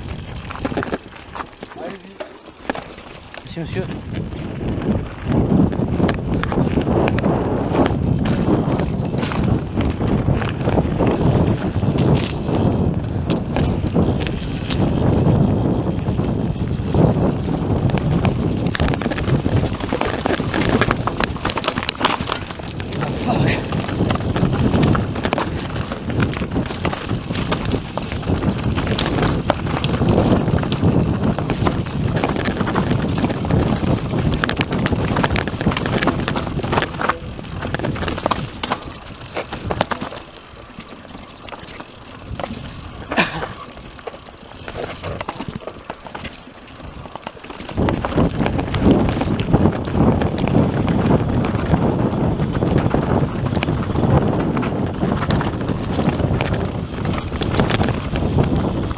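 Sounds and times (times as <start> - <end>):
bike tyres rattling over stones: 0.0 - 58.9.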